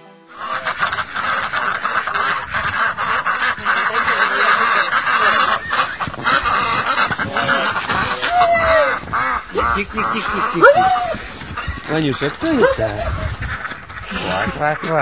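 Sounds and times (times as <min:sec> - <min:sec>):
ducks quacking: 0:00.3 - 0:15.0.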